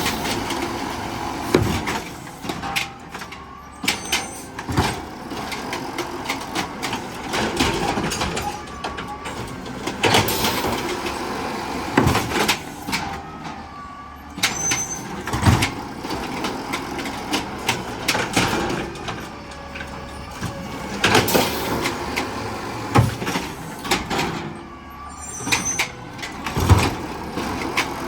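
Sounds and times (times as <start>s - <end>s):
garbage truck engine running: 0.0s - 28.0s.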